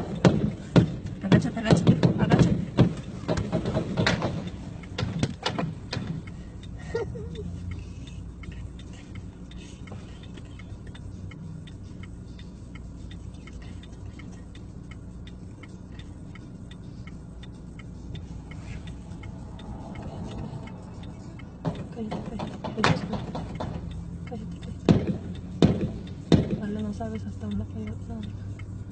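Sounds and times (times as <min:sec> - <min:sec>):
car engine idling: 0:00.0 - 0:28.9
car indicator ticking: 0:00.0 - 0:28.9.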